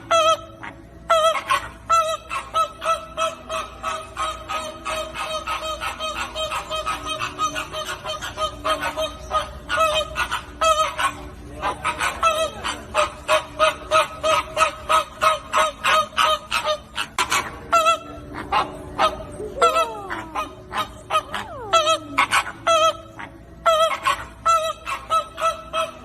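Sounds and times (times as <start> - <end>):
flamingos honking: 0.0 - 26.0.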